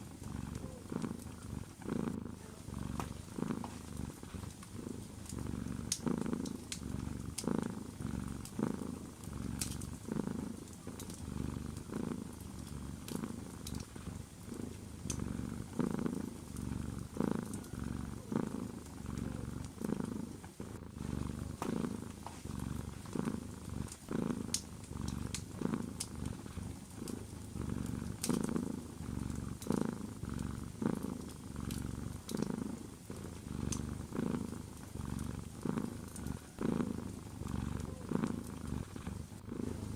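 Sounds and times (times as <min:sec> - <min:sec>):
cat purring: 0:00.0 - 0:39.9
wood fire crackling: 0:02.8 - 0:20.4, 0:21.0 - 0:39.3.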